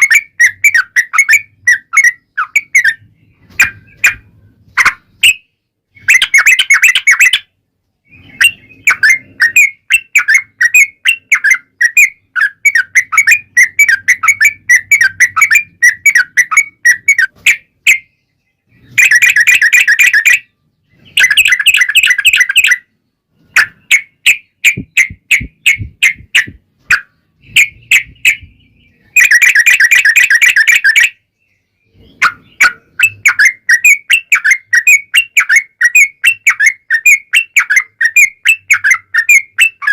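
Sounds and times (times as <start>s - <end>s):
bulbul song of chirping notes: 0.0s - 39.9s.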